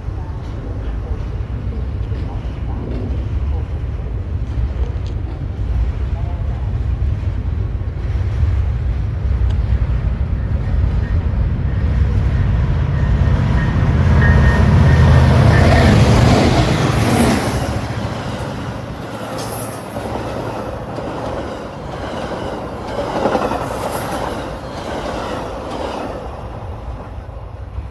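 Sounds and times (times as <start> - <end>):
diesel locomotive engine rumble: 0.0 - 27.9
train wheels rolling over rails: 0.0 - 27.9.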